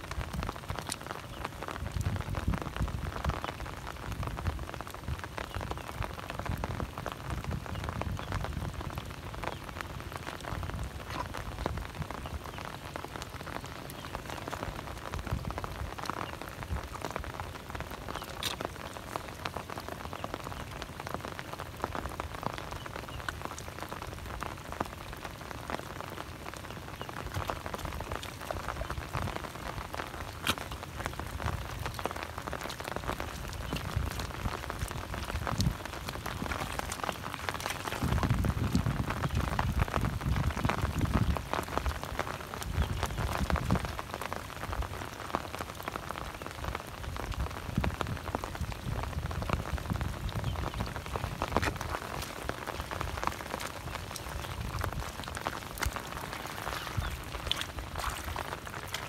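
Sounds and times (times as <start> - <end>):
rain falling on water: 0.0 - 59.0.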